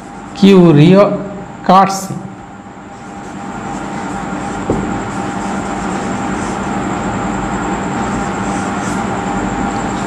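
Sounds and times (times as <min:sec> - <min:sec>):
steady rumbling with faint hum: 0:00.0 - 0:10.0.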